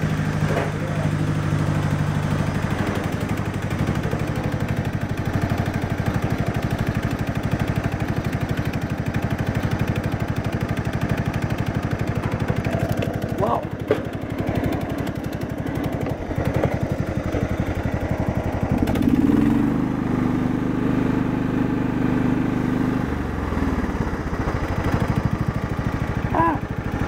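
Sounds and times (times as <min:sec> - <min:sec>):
riding mower engine running: 0:00.0 - 0:27.0.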